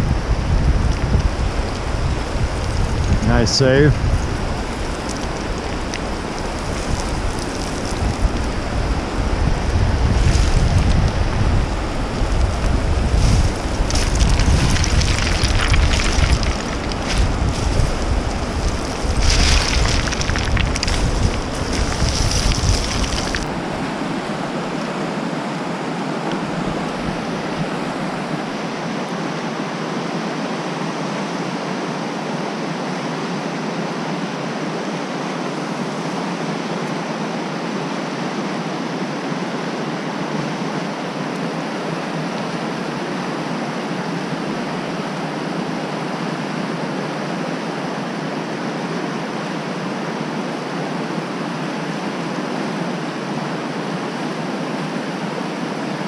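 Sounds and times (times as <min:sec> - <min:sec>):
whitewater rapids rushing: 0:01.2 - 0:56.0.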